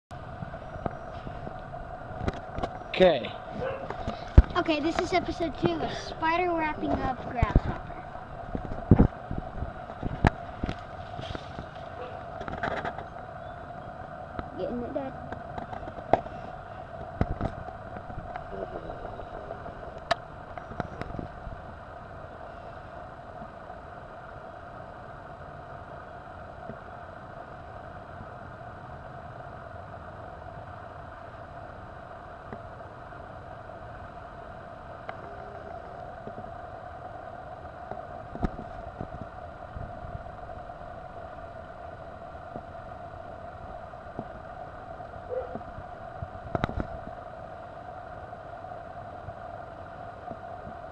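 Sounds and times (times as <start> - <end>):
mechanical hum: 0.1 - 50.9.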